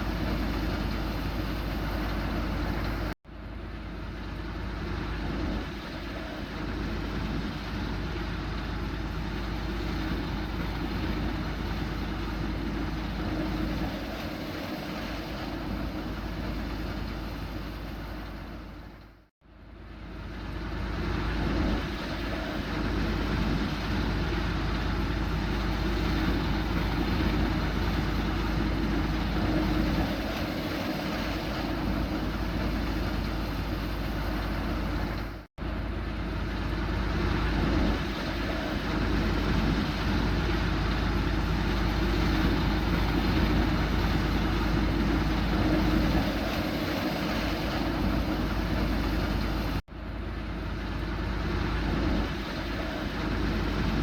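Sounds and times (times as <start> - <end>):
combine harvester machinery drone: 0.0 - 54.0.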